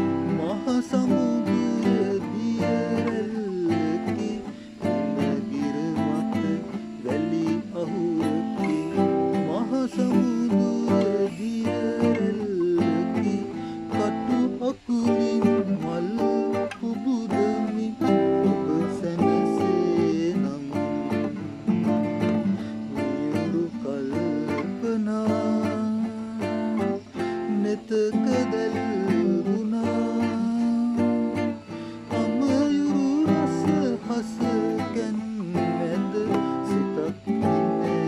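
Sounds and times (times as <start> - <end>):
classical guitar strumming: 0.0 - 38.0
man singing: 0.0 - 38.0.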